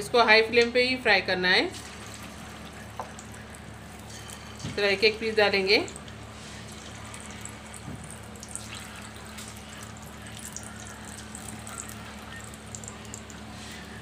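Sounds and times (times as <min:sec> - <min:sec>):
oil sizzling and crackling: 0:01.7 - 0:13.9.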